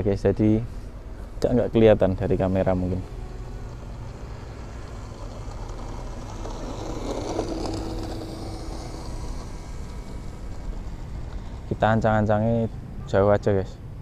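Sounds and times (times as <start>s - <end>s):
electric motor and propeller whine: 0.7s - 12.9s.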